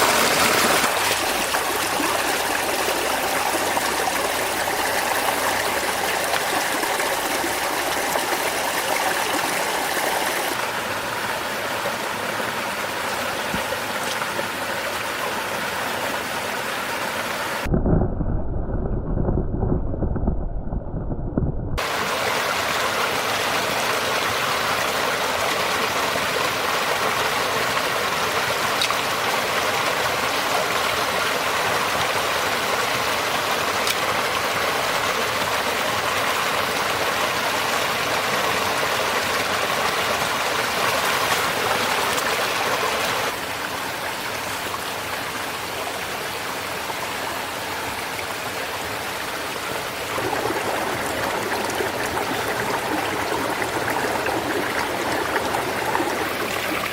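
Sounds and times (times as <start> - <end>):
rushing water: 0.0 - 17.8, 21.8 - 56.9.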